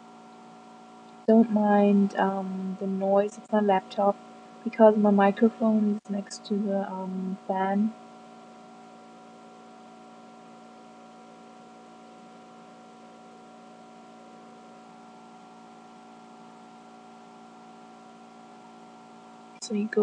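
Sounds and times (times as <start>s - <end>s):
laptop fan whirring: 0.0s - 20.0s.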